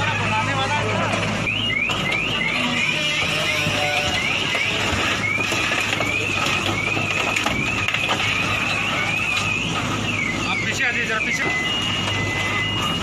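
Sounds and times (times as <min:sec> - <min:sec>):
excavator engine hum: 0:00.0 - 0:13.0
car alarm whooping: 0:01.4 - 0:13.0.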